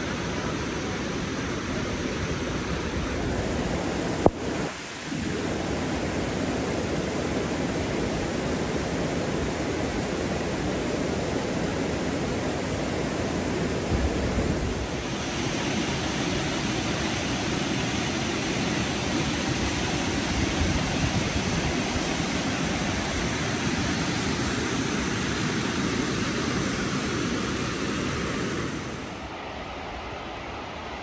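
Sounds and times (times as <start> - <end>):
rocky stream rushing: 0.0 - 29.3
waterfall rushing: 0.0 - 29.5.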